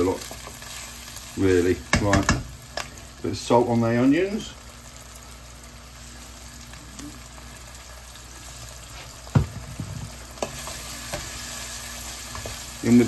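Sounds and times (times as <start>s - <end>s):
onions sizzling in pan: 0.0s - 13.0s.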